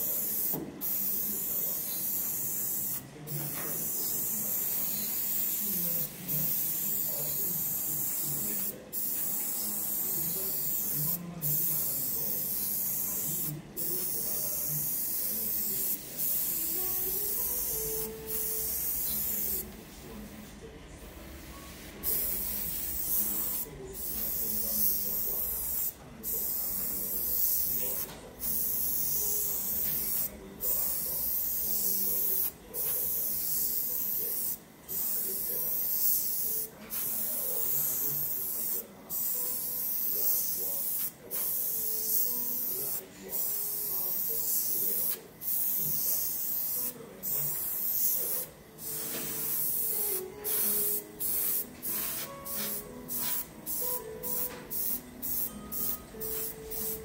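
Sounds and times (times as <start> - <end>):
airbrush spraying hiss: 0.0 - 19.7, 21.7 - 57.0.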